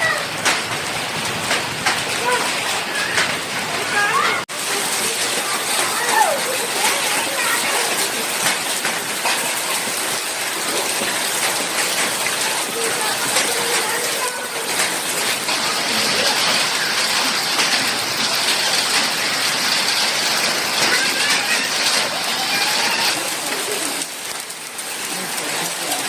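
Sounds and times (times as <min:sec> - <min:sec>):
hail and rain pelting down: 0:00.0 - 0:26.0.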